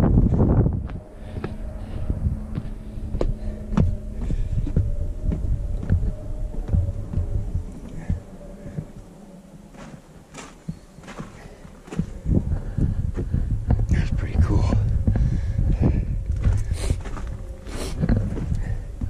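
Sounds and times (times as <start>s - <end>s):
faint steady hum: 0.0s - 19.0s
footsteps on stone: 0.2s - 9.0s, 9.7s - 19.0s.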